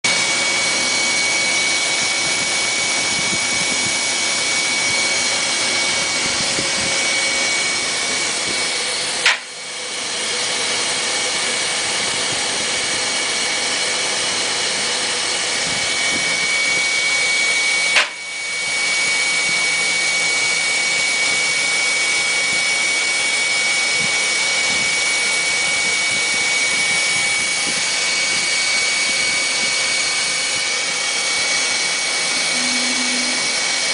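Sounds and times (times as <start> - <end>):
machine whirring with high whine: 0.0 - 33.9.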